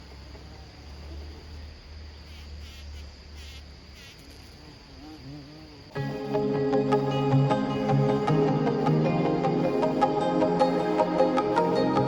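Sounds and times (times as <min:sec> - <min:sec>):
high insect trill: 0:00.0 - 0:12.0
bumblebee buzzing: 0:02.2 - 0:12.0.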